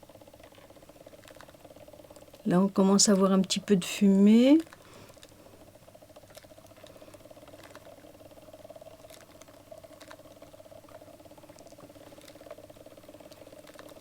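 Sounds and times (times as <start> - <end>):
faint fluttering motor whir: 0.0 - 14.0.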